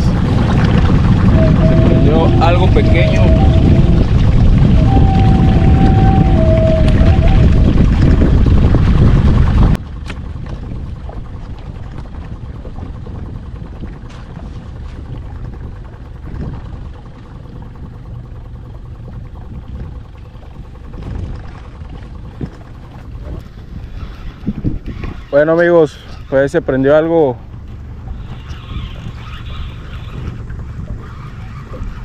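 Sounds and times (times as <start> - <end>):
wind and water rumble: 0.0 - 32.0.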